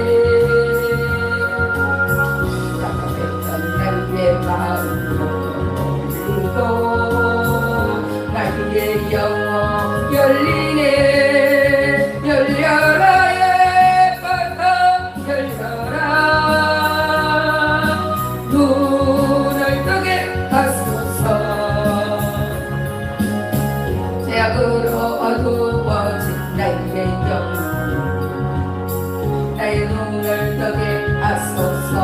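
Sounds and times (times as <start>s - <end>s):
person singing gospel song: 0.0s - 28.5s, 29.5s - 32.0s
instrumental accompaniment: 0.0s - 32.0s.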